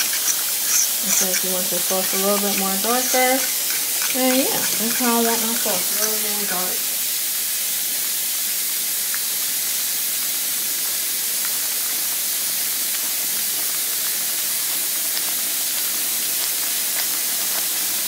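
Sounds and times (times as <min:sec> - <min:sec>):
sauce sizzling in a wok: 0:00.0 - 0:18.0.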